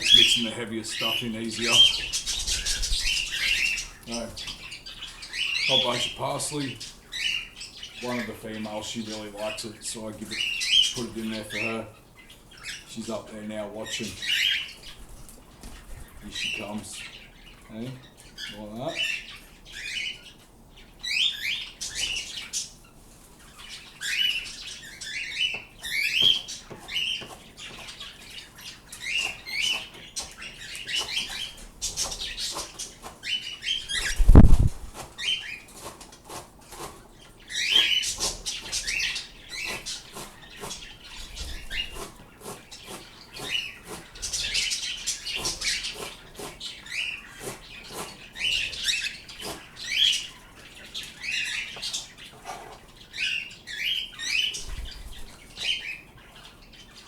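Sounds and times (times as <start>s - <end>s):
pet birds chirping: 0.0s - 57.0s.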